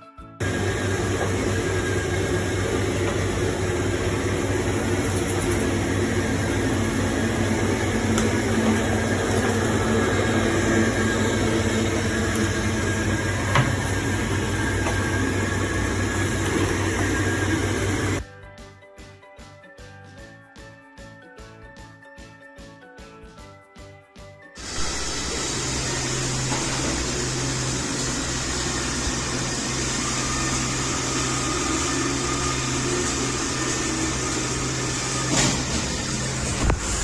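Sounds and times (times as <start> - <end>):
robot vacuum motor and fan: 0.4 - 18.2, 24.6 - 37.0.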